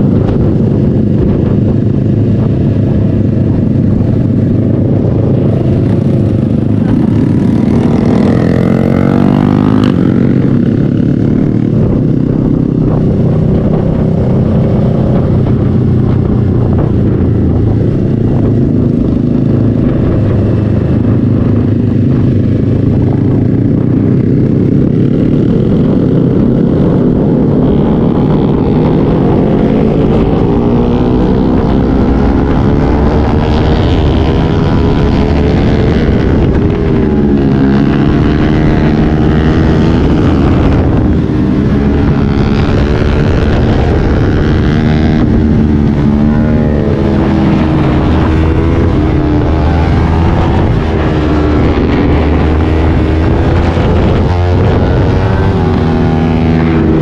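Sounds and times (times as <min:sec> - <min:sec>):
motorcycle engine accelerating: 0:00.0 - 0:57.0
wind noise rumble: 0:00.0 - 0:57.0.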